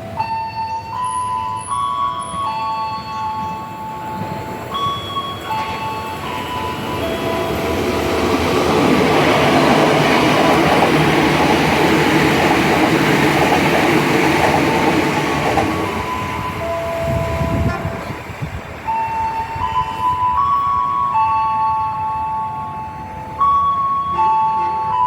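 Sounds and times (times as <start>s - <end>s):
crossing warning tones: 0.0s - 25.0s
train wheels rumbling on rails: 1.3s - 21.8s.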